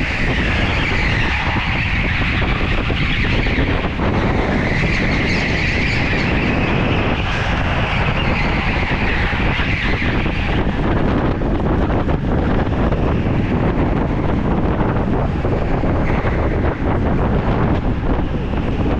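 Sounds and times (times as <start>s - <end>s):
go-kart engine at speed: 0.0s - 18.9s.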